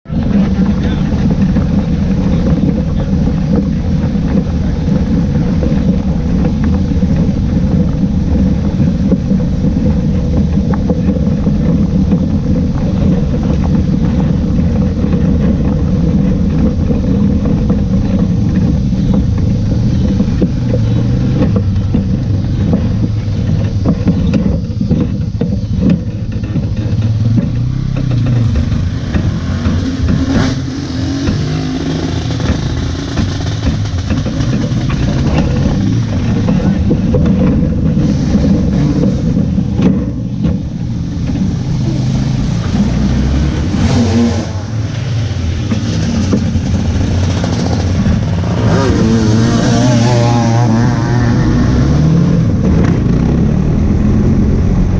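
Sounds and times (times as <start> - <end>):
race car engine: 0.0 - 54.9.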